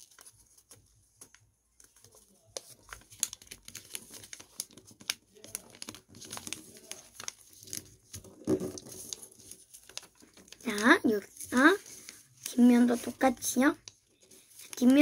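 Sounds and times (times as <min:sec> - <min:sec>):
paper crinkling while folded: 0:00.0 - 0:15.0.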